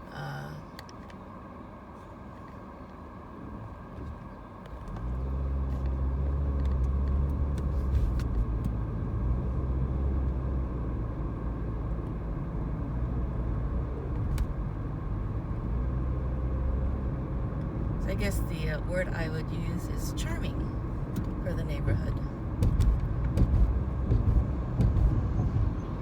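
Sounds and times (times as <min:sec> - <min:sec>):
car engine drone: 0:00.0 - 0:26.0
road rumble: 0:00.0 - 0:26.0.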